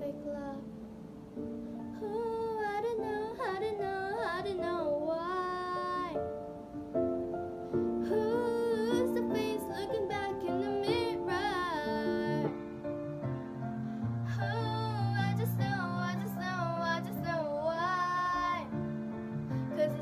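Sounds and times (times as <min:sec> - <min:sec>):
girl singing wordless vocals: 0:00.0 - 0:01.0, 0:01.8 - 0:06.7, 0:07.7 - 0:12.9, 0:14.2 - 0:20.0
pop backing track: 0:00.0 - 0:20.0.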